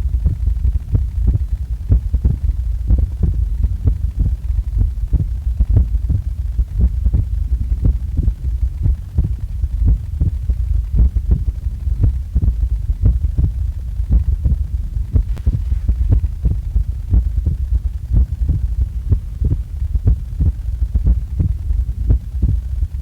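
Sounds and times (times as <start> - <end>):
heartbeat thumps: 0.0 - 23.0
low rumble: 0.0 - 23.0.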